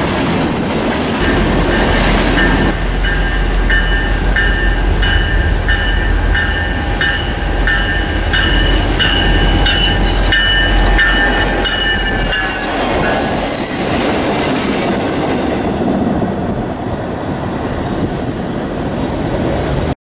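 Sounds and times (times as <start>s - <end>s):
rumble and clatter of wheels on rails: 0.0s - 20.0s
train wheels squealing: 1.2s - 14.1s, 15.9s - 20.0s.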